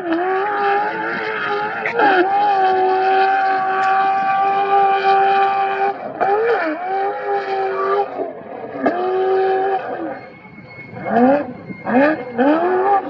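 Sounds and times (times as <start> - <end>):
engine revving at high revs: 0.0 - 10.0, 11.0 - 13.0.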